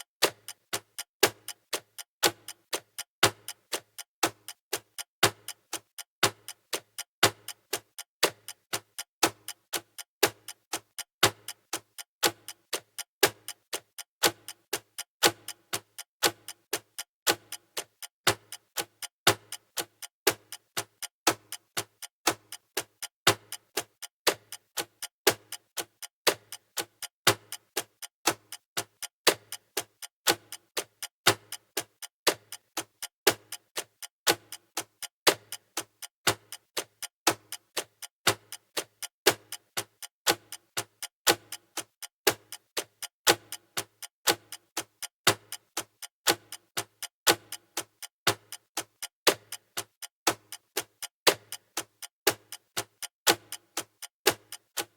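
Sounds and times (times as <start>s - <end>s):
clock ticking: 0.0s - 54.9s.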